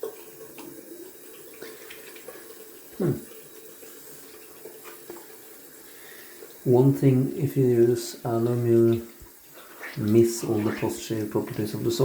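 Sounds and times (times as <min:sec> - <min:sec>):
hands rinsed with splashes: 0:00.0 - 0:07.3, 0:08.3 - 0:12.0
sink tap running: 0:00.0 - 0:12.0.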